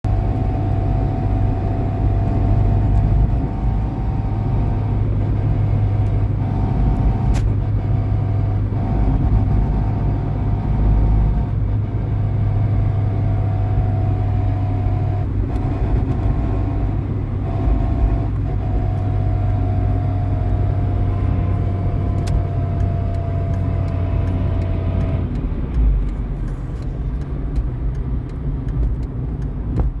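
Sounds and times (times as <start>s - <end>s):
car engine low rumble: 0.0s - 30.0s.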